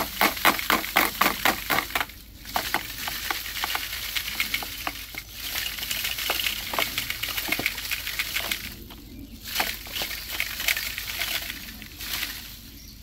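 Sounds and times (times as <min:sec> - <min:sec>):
seeds pattering into a plastic tub: 0:00.0 - 0:12.6
dry seed pods rattling: 0:00.0 - 0:13.0.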